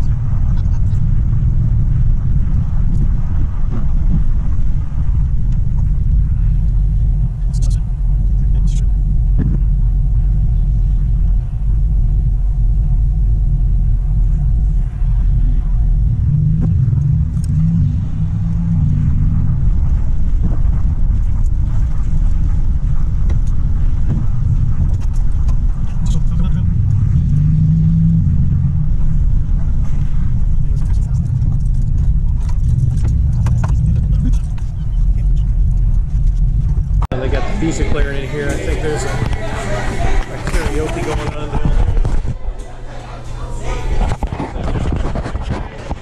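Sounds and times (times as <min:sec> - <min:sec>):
car engine rumble: 0:00.0 - 0:46.0.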